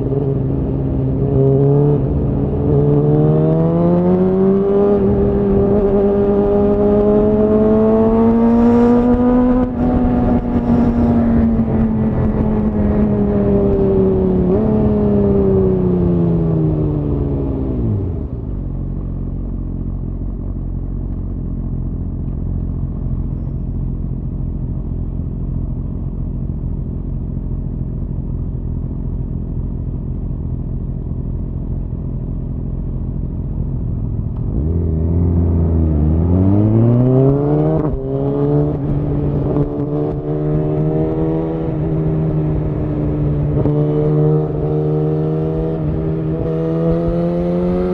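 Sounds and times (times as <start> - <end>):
motorcycle engine revving and idling: 0.0 - 47.9.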